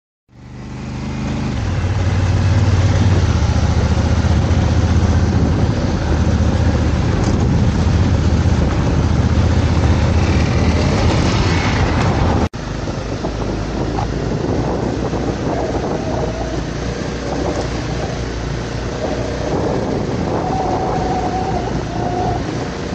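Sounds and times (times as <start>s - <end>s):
motorcycle engine running: 0.3s - 22.9s
wind and road noise: 0.3s - 22.9s.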